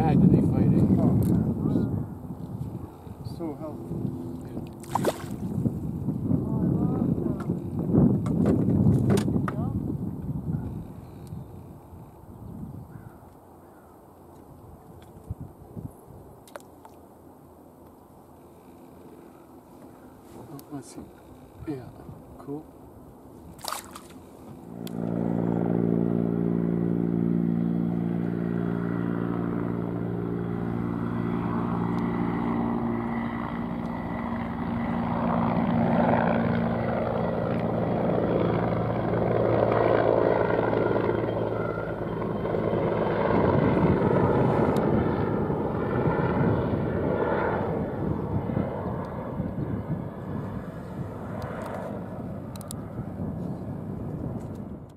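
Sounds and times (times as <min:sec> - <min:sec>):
helicopter rotor and engine: 0:00.0 - 0:54.9
low hum: 0:00.0 - 0:54.9.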